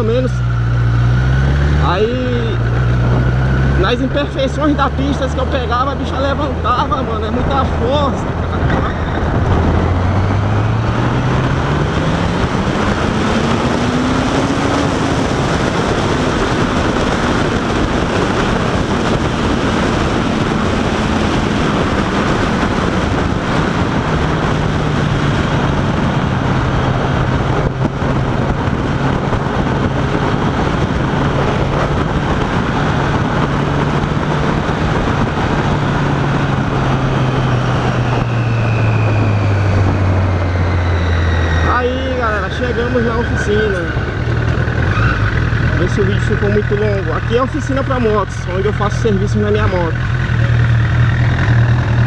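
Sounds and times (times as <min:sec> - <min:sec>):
motorcycle engine pulling hard: 0:00.0 - 0:52.0
wind rush over microphone: 0:00.0 - 0:52.0.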